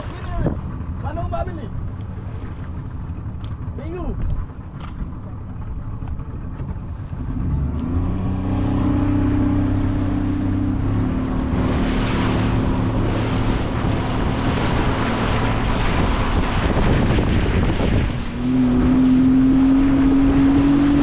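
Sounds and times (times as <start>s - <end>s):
water rushing: 0.0s - 5.9s, 7.0s - 21.0s
boat engine: 0.0s - 21.0s
wind: 0.0s - 21.0s.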